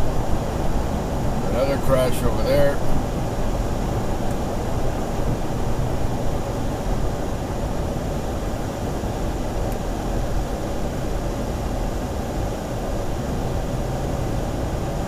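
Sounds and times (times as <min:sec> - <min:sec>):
car engine hum: 0:00.0 - 0:15.0
road and tyre noise: 0:00.0 - 0:15.0.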